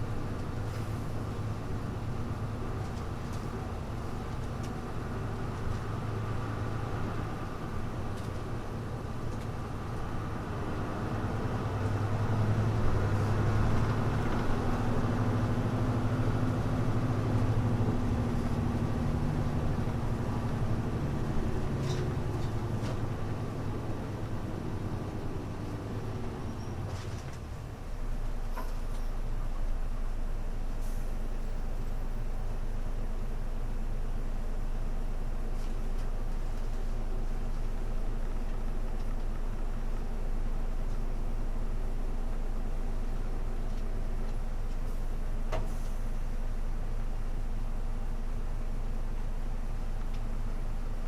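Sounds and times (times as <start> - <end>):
muffled bus diesel engine: 0.0 - 51.0.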